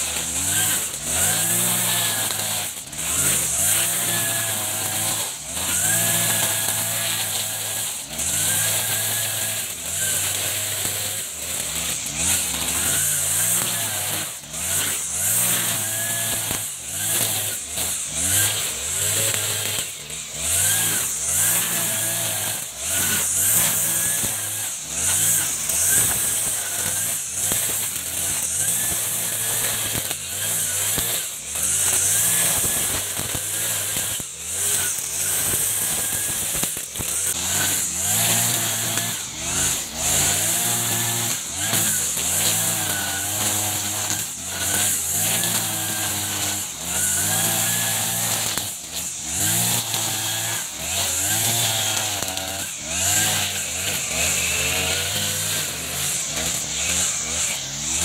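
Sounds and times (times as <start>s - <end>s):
brush cutter engine revving: 0.0s - 58.0s
line cutting grass: 0.0s - 58.0s
trimmer line hissing: 0.0s - 58.0s.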